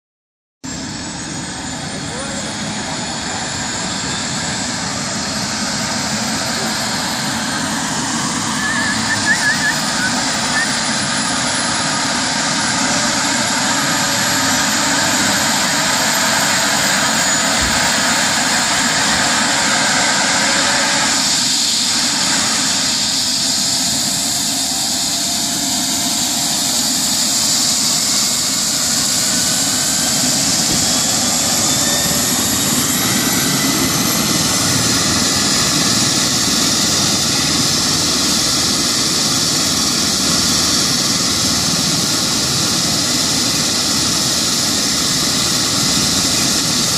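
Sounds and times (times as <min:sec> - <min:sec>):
helicopter rotor noise: 0:00.6 - 0:46.9
helicopter turbine whine: 0:00.6 - 0:46.9.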